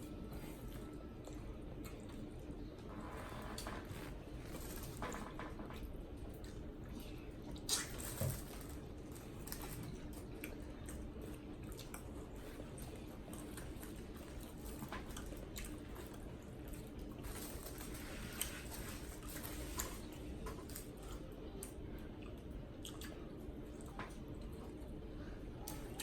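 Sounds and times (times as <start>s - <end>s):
wet squishy eating sounds: 0.0s - 26.0s.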